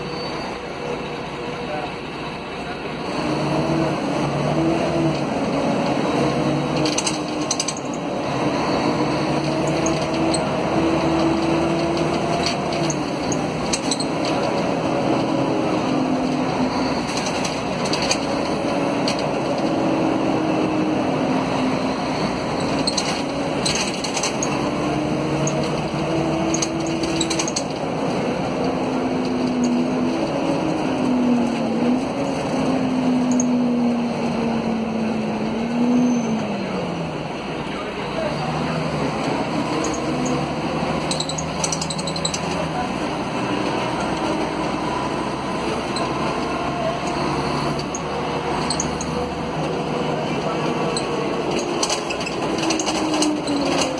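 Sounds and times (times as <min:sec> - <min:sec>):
bus body rattling and knocking: 0:00.0 - 0:53.9
bus diesel engine: 0:00.0 - 0:53.9.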